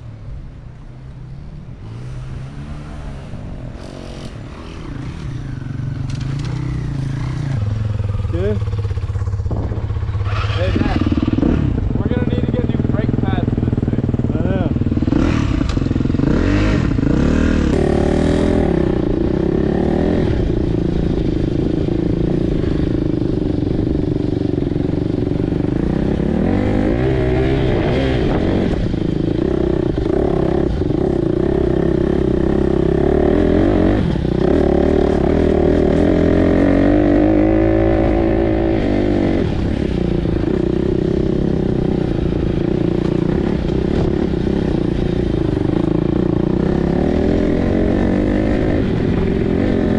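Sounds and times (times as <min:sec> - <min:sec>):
dirt bike engine revving: 0:01.8 - 0:49.9.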